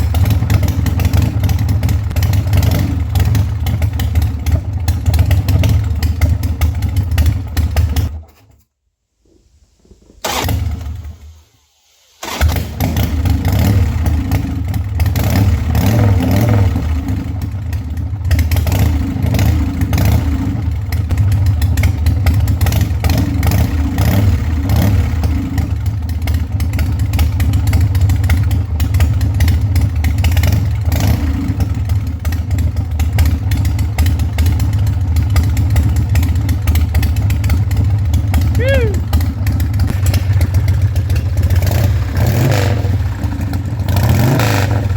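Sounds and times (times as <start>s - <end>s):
motorcycle engine running: 0.0s - 8.3s, 12.4s - 44.9s.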